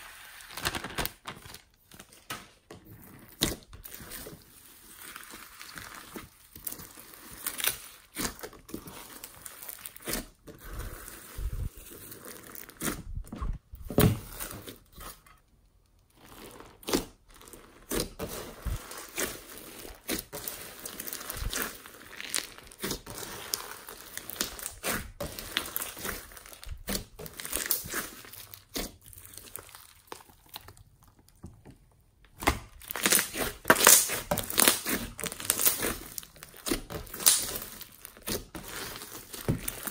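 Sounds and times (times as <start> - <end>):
slime crackling and popping: 3.2 - 13.1, 16.0 - 31.4, 32.3 - 39.9.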